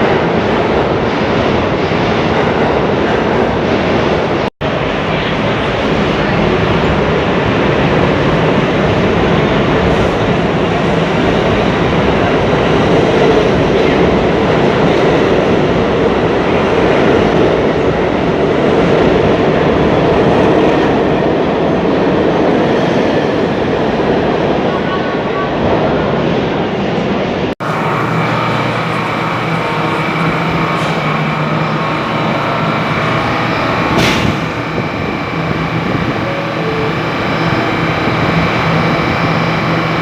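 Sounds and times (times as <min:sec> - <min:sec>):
train wheels rumbling on track: 0:00.0 - 0:40.0.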